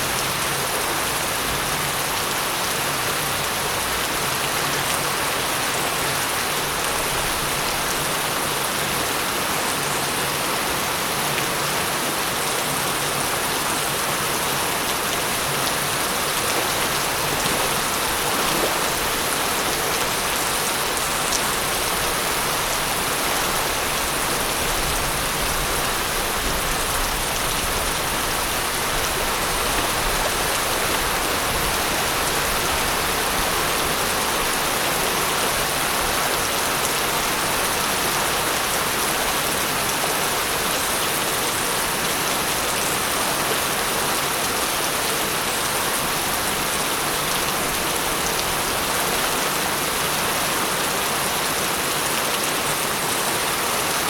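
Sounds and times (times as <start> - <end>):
heavy rain pattering: 0.1 - 54.0.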